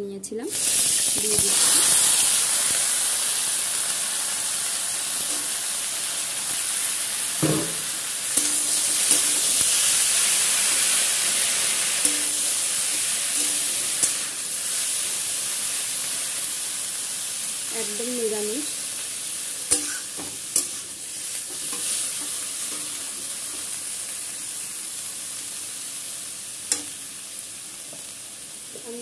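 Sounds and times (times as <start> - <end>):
vegetables sizzling in hot oil: 0.2 - 29.0.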